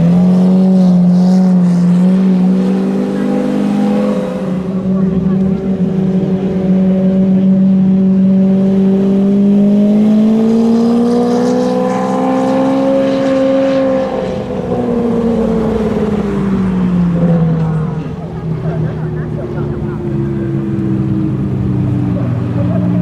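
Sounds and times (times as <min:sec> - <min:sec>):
car engine passing slowly: 0:00.0 - 0:23.0.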